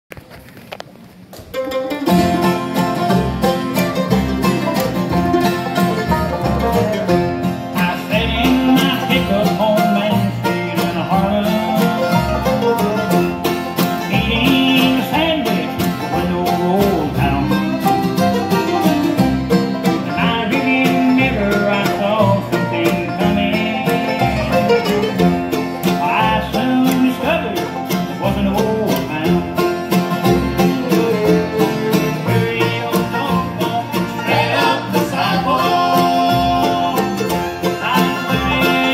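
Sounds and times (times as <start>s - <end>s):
acoustic guitar: 0.1s - 38.9s
mandolin: 0.1s - 38.9s
fiddle: 1.4s - 38.9s
banjo: 1.5s - 38.9s
upright bass: 1.5s - 38.9s.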